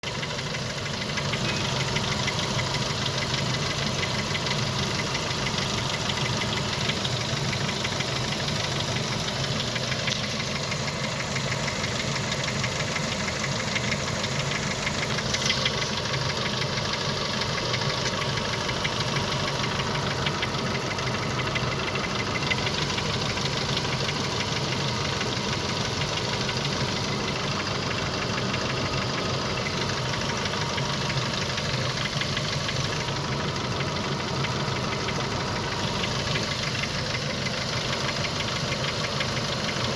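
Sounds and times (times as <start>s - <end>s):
engine knocking: 0.0s - 39.9s
petrol engine running steadily: 0.0s - 39.9s.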